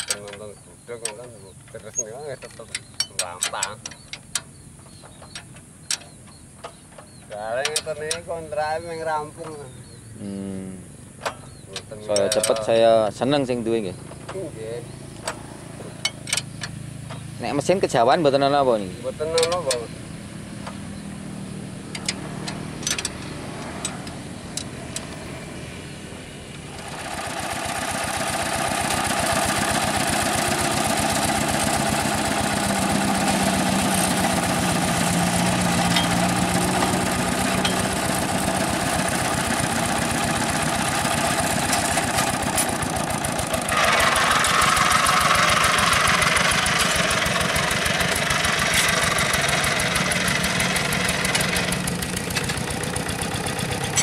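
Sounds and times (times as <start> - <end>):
sharp engine knocks: 0.0 - 8.4, 14.0 - 18.0, 21.8 - 25.3, 26.6 - 54.0
diesel engine running: 9.8 - 54.0.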